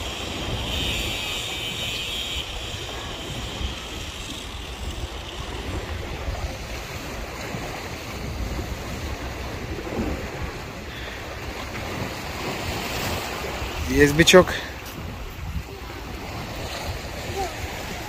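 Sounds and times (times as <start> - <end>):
sea washing against breakwater: 0.0 - 18.0
wind buffeting microphone: 0.0 - 18.0.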